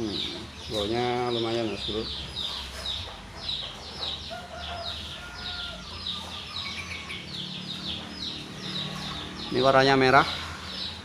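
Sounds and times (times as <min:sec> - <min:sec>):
birds chirping: 0:00.0 - 0:11.0
long steady bird call: 0:00.0 - 0:11.0.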